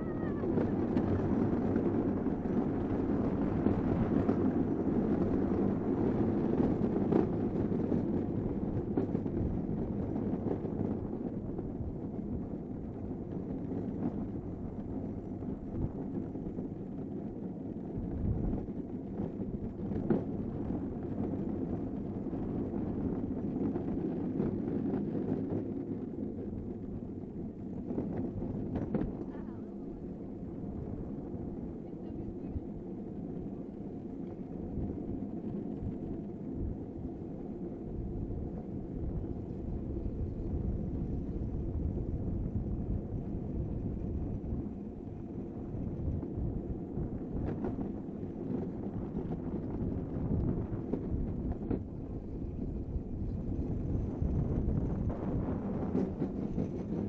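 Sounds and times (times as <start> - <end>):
wheels rumbling on asphalt: 0.0 - 57.0
wind buffeting microphone: 0.0 - 57.0.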